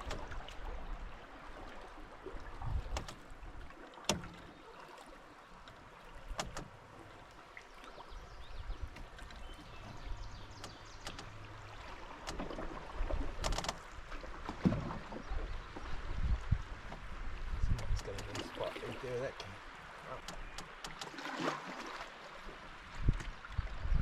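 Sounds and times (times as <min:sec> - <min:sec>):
moving water: 0:00.0 - 0:24.0
paddle dipping in water: 0:00.0 - 0:24.0.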